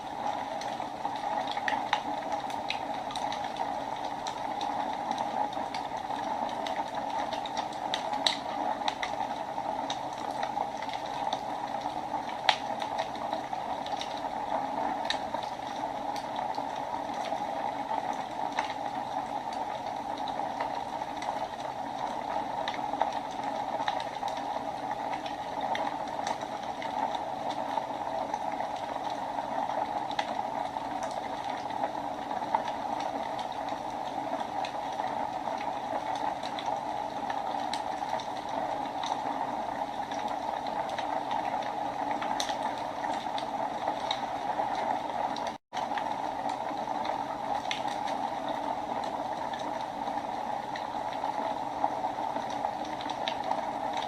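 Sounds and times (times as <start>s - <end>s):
fire crackling and popping: 0.0s - 54.0s
fireplace fire hissing: 0.0s - 54.0s.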